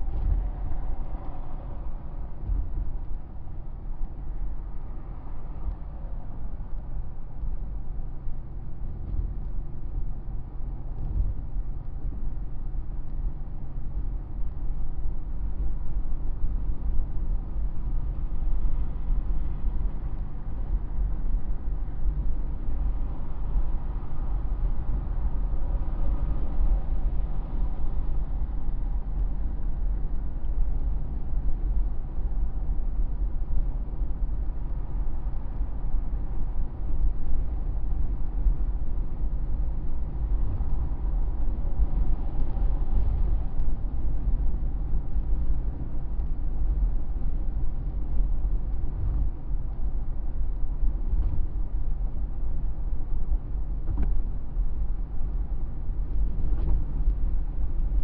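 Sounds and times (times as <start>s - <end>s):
vehicle cruising road noise: 0.0s - 58.0s.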